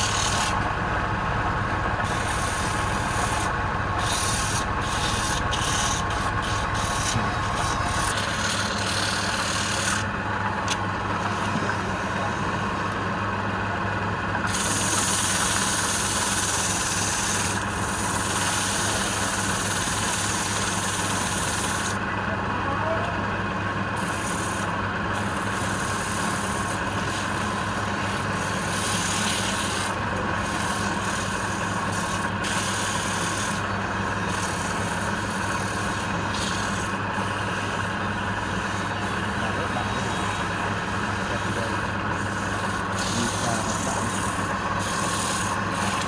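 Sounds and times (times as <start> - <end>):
sanding on spinning wood: 0.0 - 0.6, 2.0 - 10.1, 14.5 - 22.0, 24.0 - 46.0
wood lathe humming: 0.0 - 13.4, 14.2 - 22.2, 23.4 - 46.0.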